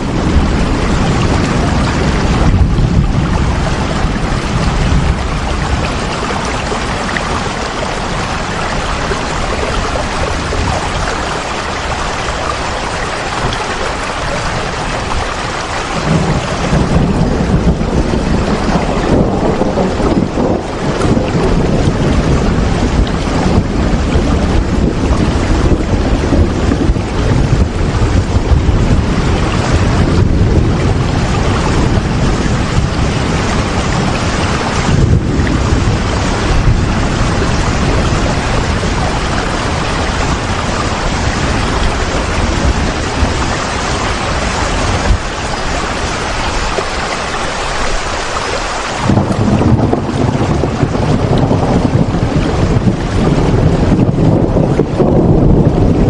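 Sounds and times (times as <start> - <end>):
heavy rain with deep rumble: 0.0 - 56.0.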